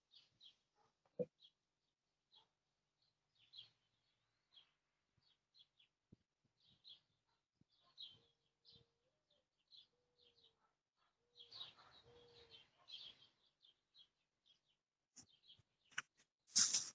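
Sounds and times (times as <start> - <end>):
faint bird chirping: 2.3 - 16.9.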